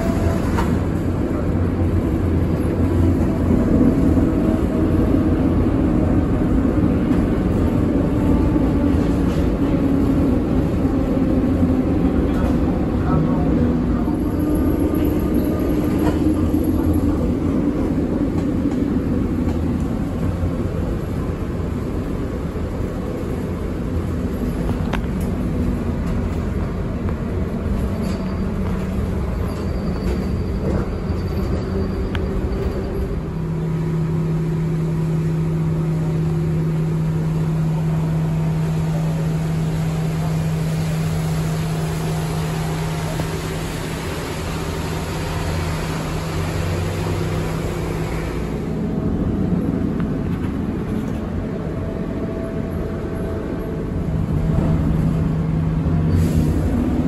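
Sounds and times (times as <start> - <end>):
tram rumbling on rails: 0.0 - 57.0.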